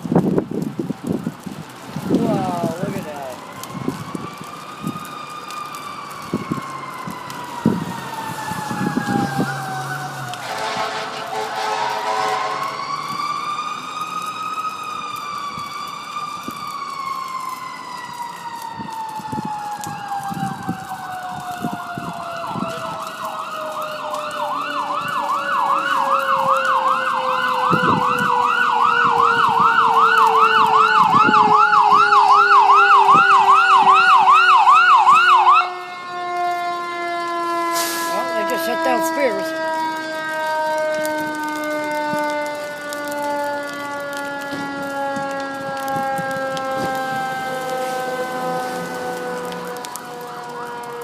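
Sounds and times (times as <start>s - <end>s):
fire truck siren wailing and yelping: 0.0s - 51.0s
second siren tone sliding lower: 3.4s - 51.0s.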